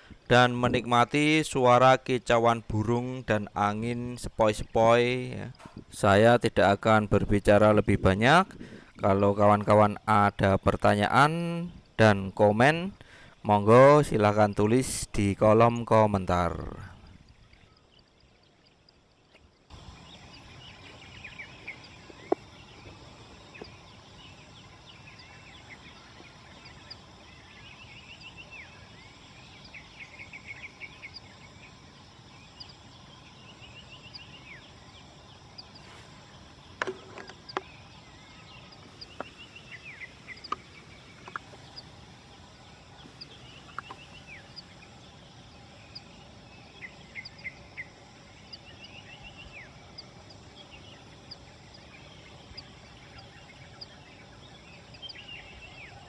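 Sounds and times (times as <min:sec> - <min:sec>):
birds singing trilled phrases: 0:00.0 - 0:56.0.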